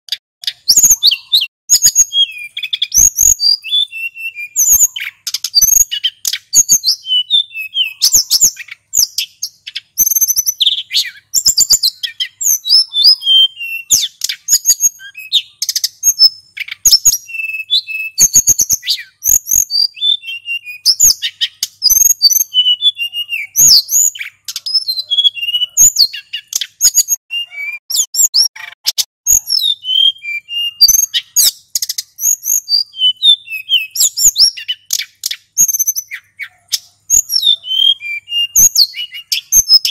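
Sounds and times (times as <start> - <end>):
bird singing chirps and trills: 0.1 - 39.9.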